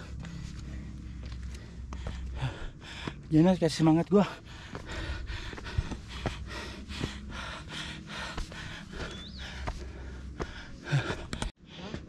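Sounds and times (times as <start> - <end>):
person breathing hard: 0.0 - 3.3, 4.2 - 12.0.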